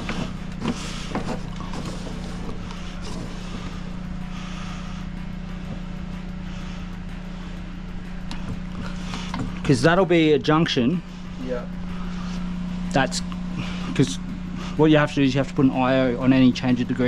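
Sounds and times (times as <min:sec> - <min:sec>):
drain-cleaning machine engine humming: 0:00.0 - 0:17.0.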